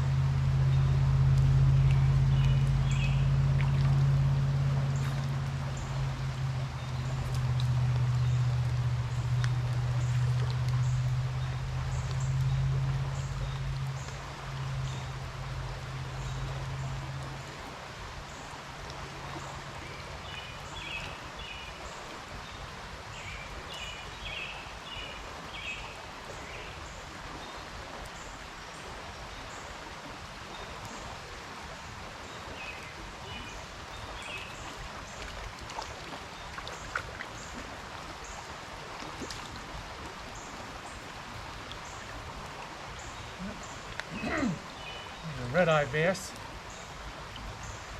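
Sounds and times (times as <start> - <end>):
creek water running: 0.0 - 47.9.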